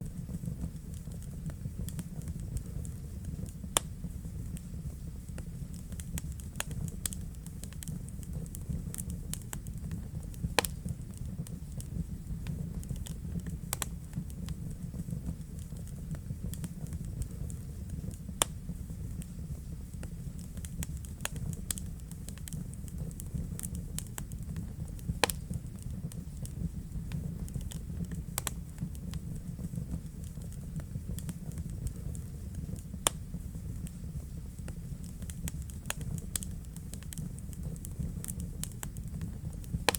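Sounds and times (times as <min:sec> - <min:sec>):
fire crackles and pops: 0:00.0 - 0:39.9
wood fire burning: 0:00.0 - 0:39.9.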